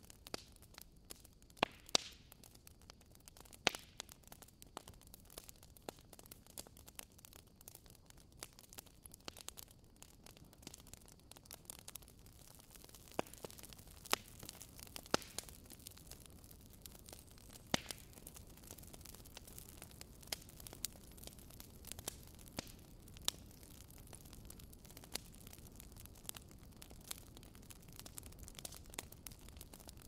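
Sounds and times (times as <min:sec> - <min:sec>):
fire crackling and popping: 0:00.0 - 0:30.0
soft steady hiss: 0:00.0 - 0:30.0.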